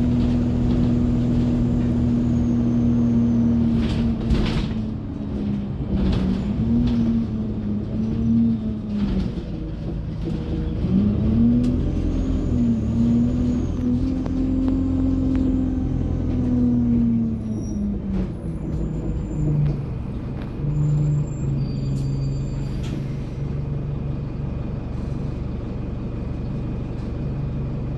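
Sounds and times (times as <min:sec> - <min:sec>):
bus engine droning: 0:00.0 - 0:27.9.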